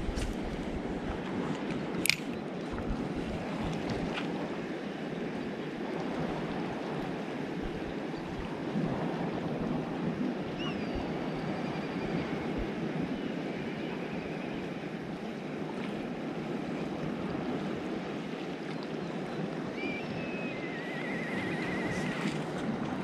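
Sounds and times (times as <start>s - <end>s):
sea and wind wash: 0.0s - 23.0s.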